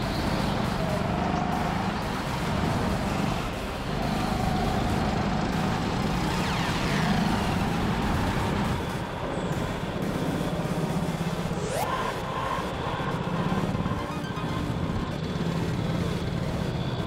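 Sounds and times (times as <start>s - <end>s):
go-kart motor and tyre noise: 0.0s - 17.0s.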